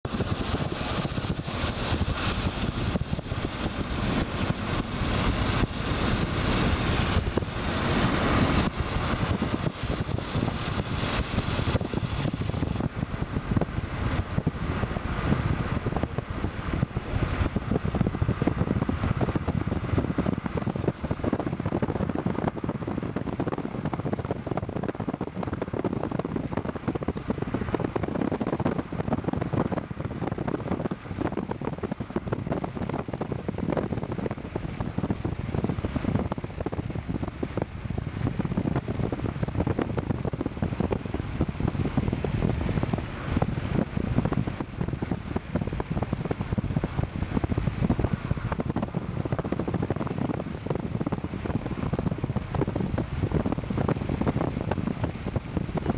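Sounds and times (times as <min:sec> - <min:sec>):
road and tyre noise inside car: 0:00.0 - 0:55.9.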